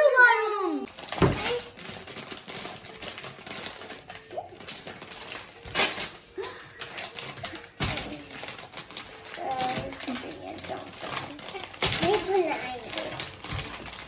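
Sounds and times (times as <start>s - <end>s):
hands rustling packets: 0.9s - 14.0s.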